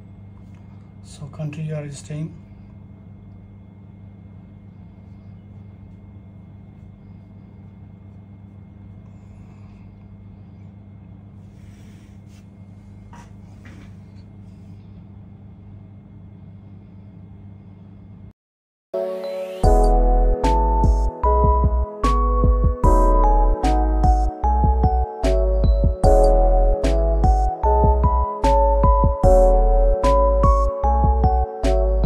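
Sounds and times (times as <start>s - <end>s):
steady low hum: 0.0s - 18.3s, 19.6s - 32.0s.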